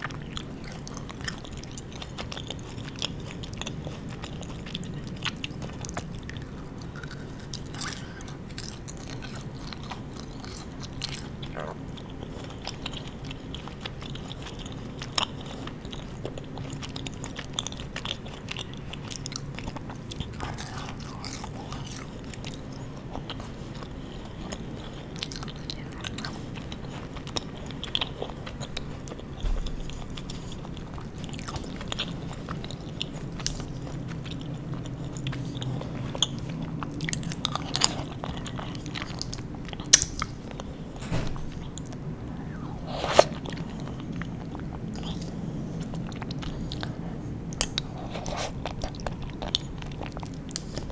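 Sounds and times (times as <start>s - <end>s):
chewing sweets: 0.0s - 50.9s.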